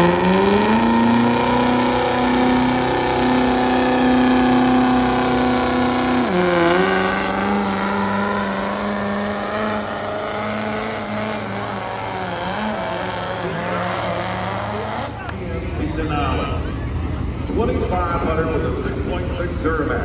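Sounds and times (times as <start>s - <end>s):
diesel truck engine at full throttle: 0.0s - 20.0s.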